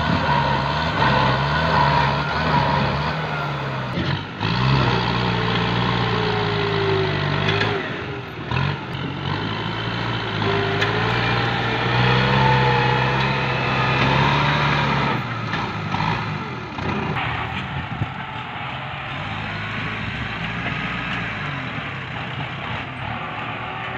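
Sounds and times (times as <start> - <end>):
tractor diesel engine under load: 0.0 - 23.9.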